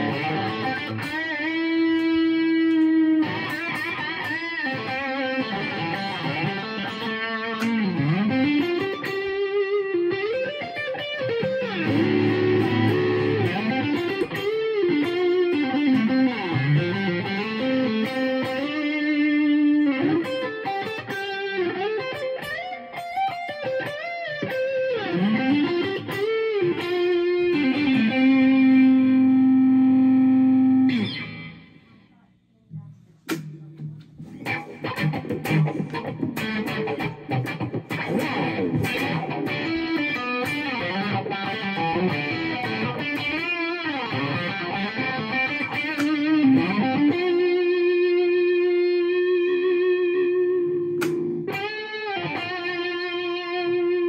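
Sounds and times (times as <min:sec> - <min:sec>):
electric guitar lead with bends: 0:00.0 - 0:32.1, 0:33.8 - 0:54.0.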